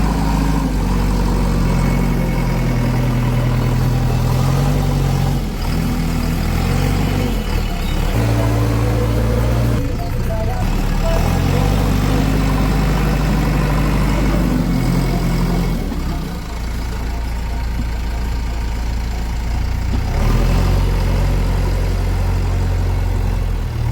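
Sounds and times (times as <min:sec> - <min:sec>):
diesel engine droning: 0:00.0 - 0:23.9.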